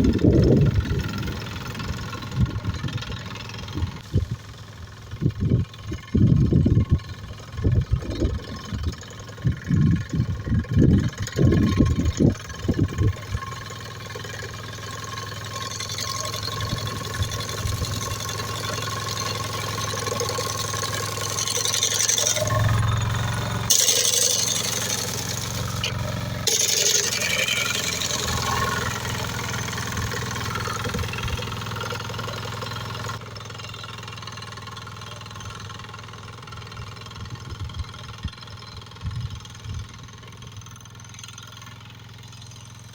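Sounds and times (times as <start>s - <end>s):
mowing machine engine running: 0.0s - 42.9s.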